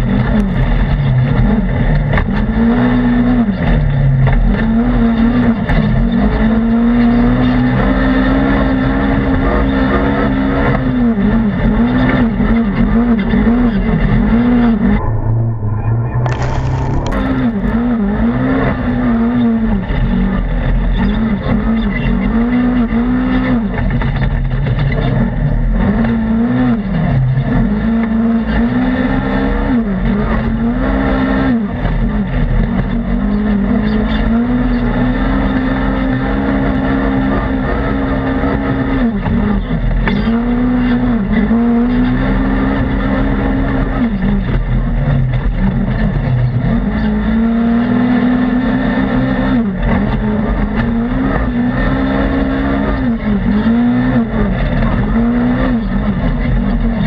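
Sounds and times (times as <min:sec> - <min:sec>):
engine revving at high revs: 0:00.0 - 0:57.0.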